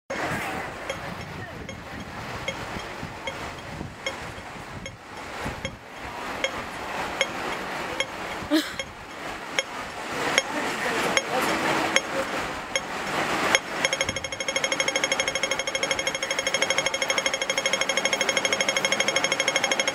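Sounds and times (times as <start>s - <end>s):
street noise: 0.1s - 19.9s
crossing signal ticking: 0.8s - 19.9s.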